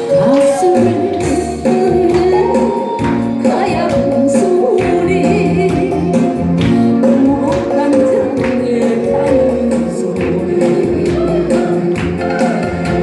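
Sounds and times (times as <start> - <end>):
song with singing voice: 0.0 - 13.0
steady percussive beat: 0.0 - 13.0.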